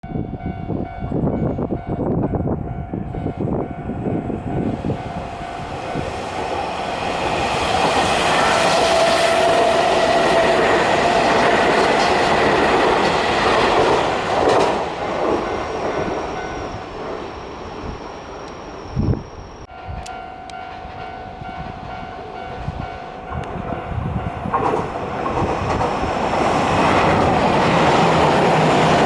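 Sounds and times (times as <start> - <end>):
train rumble and wheel clatter: 0.0 - 29.0.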